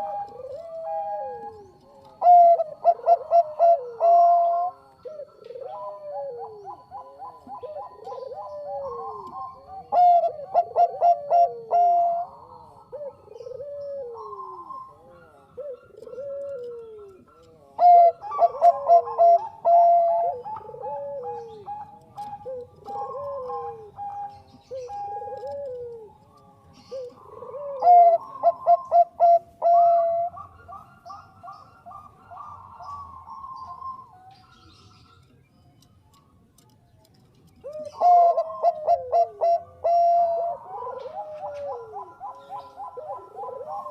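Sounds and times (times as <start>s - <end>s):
soft falling dove coos: 0.0s - 35.3s, 36.1s - 43.9s
dove song phrases: 0.0s - 43.9s.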